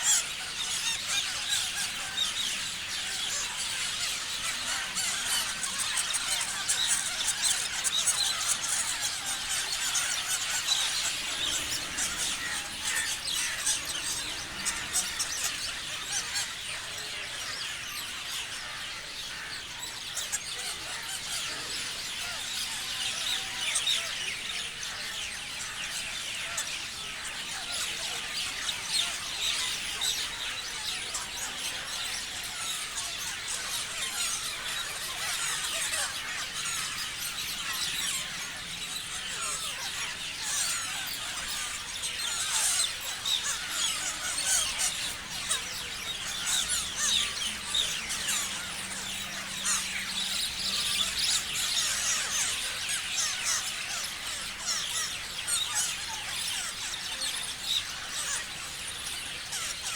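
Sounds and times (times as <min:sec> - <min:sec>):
parrots chirping and squealing: 0:00.0 - 0:59.9.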